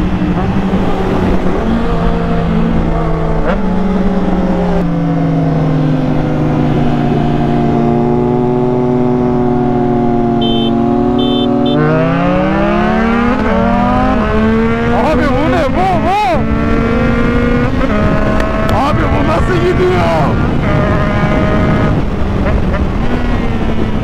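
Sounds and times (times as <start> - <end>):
wind noise: 0.0 - 4.9, 6.0 - 24.0.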